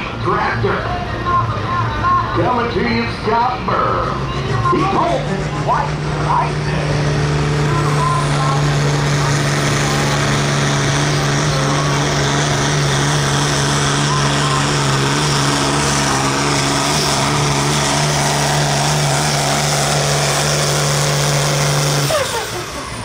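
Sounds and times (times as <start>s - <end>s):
tractor engine at full throttle: 0.0s - 23.0s.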